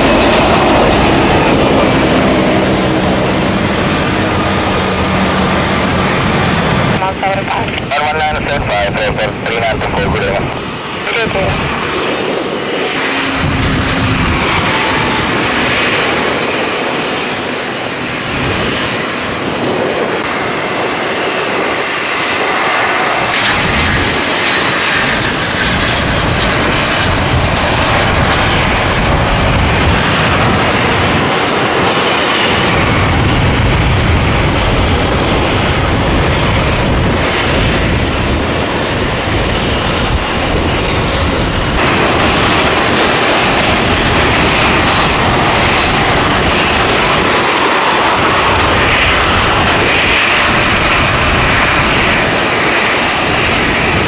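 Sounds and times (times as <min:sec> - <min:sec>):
jet aircraft taxiing: 0:00.0 - 0:54.0
jet landing with falling whine: 0:00.0 - 0:54.0.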